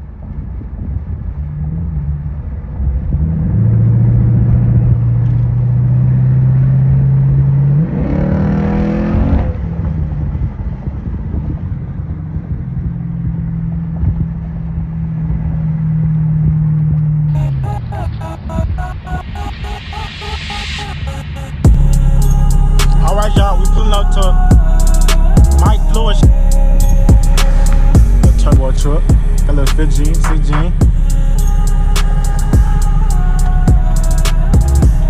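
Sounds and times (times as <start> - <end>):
truck engine revving: 1.5 - 10.8, 12.4 - 35.0.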